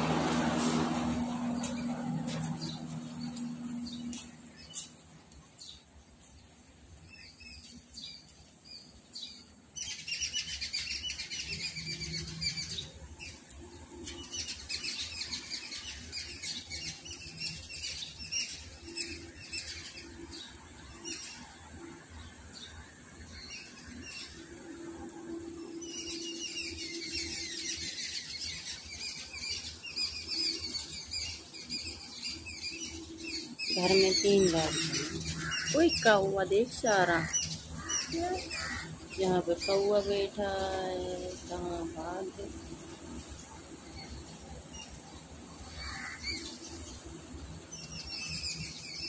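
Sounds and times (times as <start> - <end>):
small birds chirping chorus: 0.0 - 49.0.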